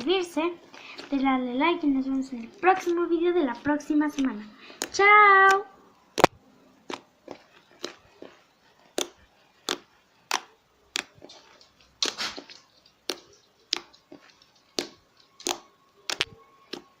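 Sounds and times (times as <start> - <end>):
slime squishing and popping: 2.4 - 17.0.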